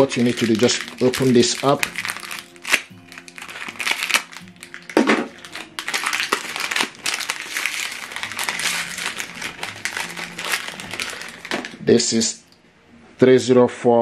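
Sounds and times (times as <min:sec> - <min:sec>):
packaging crinkling and tearing: 0:00.0 - 0:11.8
soft background music: 0:00.0 - 0:14.0.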